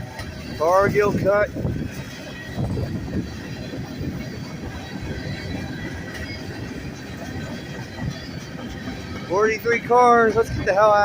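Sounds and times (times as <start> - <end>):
high wheel squeal: 0.0 - 11.0
train wheels rumbling on rails: 0.0 - 11.0.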